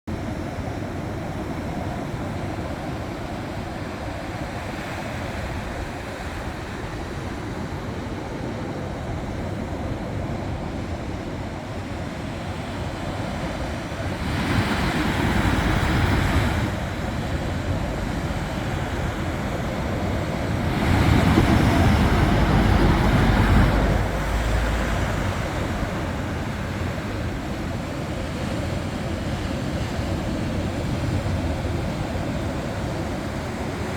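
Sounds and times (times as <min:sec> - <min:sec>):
sea waves washing onto beach: 0:00.4 - 0:33.9.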